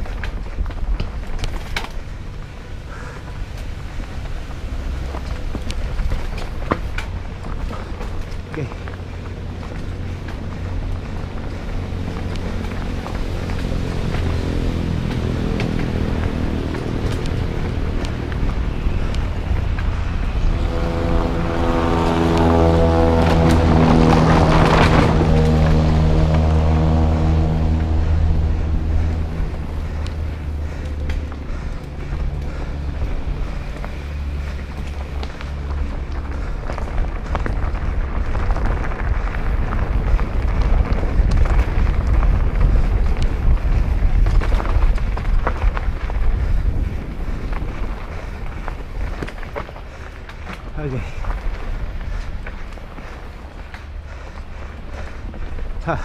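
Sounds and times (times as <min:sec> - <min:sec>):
bike rattling down rocky trail: 0:00.0 - 0:20.8, 0:22.3 - 0:56.0
wind buffeting microphone: 0:00.0 - 0:56.0.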